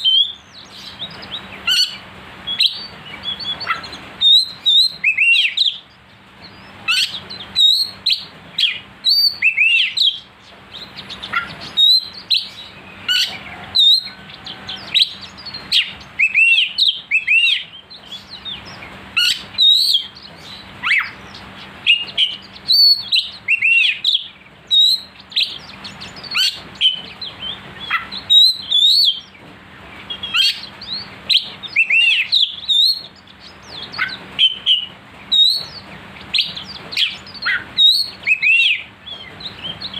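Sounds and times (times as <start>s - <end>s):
songbird singing whistled song: 0.0s - 39.9s.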